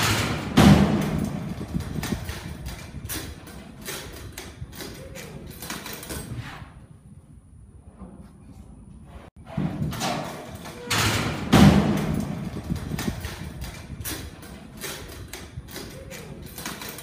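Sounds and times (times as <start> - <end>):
bull hooves thudding and clattering: 0.0 - 6.4, 9.4 - 17.0.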